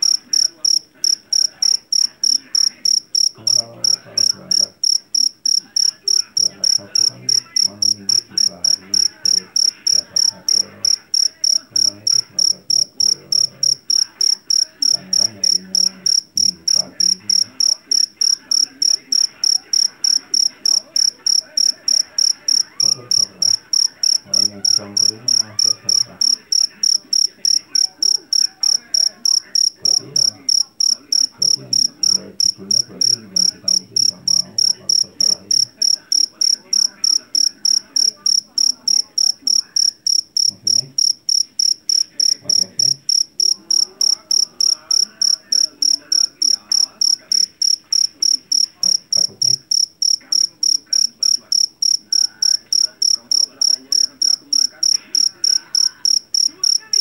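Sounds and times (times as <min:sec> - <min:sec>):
faint low background murmur: 0:00.0 - 0:57.0
field cricket chirping: 0:00.0 - 0:57.0.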